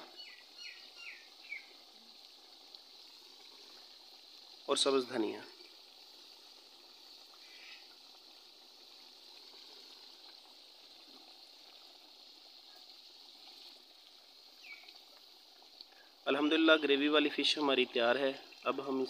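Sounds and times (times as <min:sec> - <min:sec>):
gravy bubbling in a pot: 0:00.0 - 0:19.0.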